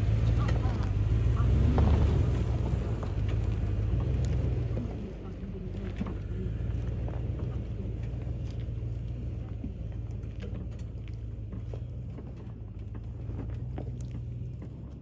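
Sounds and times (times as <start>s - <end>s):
clicks and knocks over rocks: 0.0s - 15.0s
engine low rumble: 0.0s - 15.0s.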